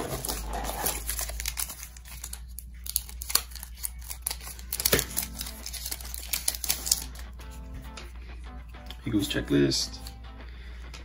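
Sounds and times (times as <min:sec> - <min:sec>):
trading cards rustling and flicking: 0:00.0 - 0:09.3, 0:09.9 - 0:10.2.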